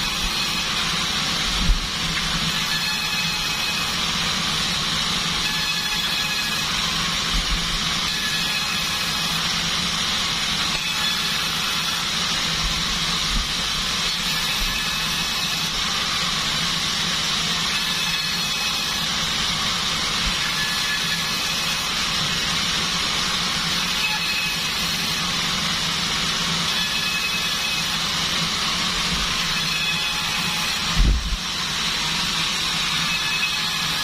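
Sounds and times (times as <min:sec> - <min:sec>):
bandsaw running: 0:00.0 - 0:34.0.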